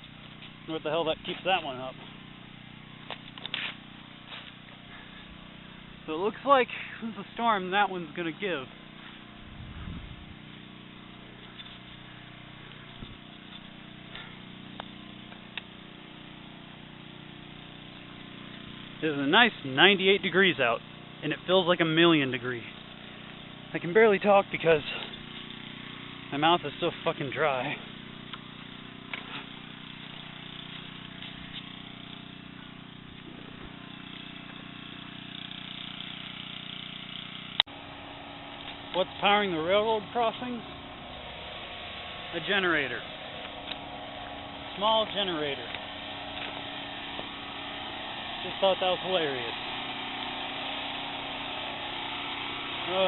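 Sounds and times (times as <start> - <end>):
engine hum: 0.0 - 53.0.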